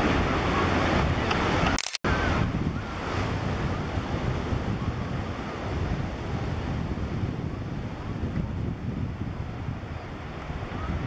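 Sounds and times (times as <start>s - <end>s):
ocean surf: 0.0s - 11.0s
wind rumbling on microphone: 0.0s - 11.0s.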